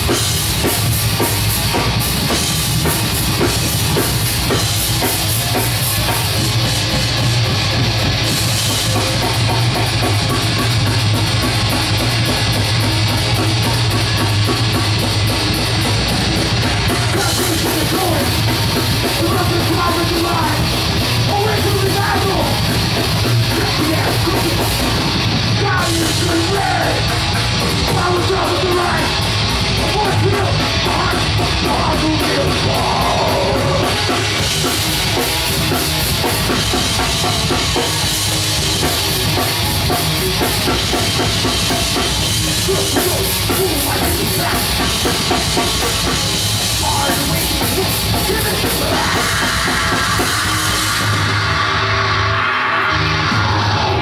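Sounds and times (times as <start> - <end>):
metal band playing live: 0.0 - 54.0.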